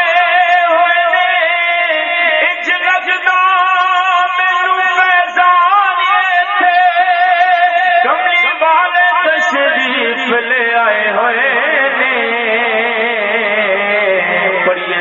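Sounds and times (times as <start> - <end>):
man singing through loudspeakers: 0.0 - 15.0.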